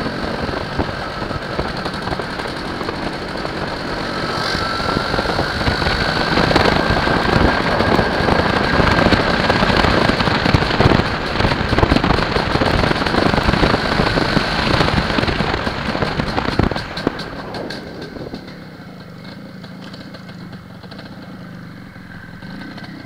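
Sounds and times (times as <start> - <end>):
wind buffeting microphone: 0.0 - 19.2
motorcycle engine idling low: 0.0 - 23.0
road noise: 0.0 - 23.0.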